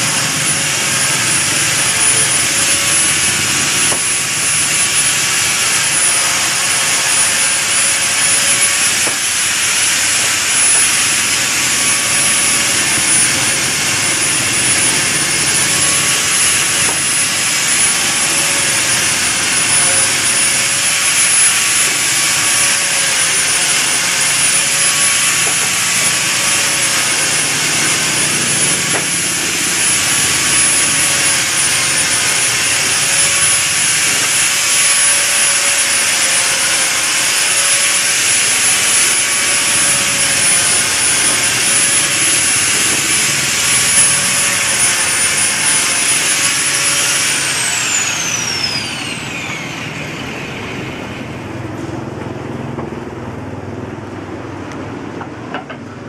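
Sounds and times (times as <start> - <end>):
woodworking machine motor whine: 0.0 - 56.0.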